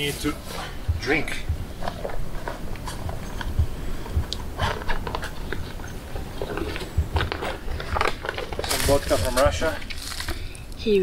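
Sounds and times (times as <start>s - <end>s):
footsteps on dry leaves: 0.0s - 10.7s
handling bumps: 0.0s - 11.0s.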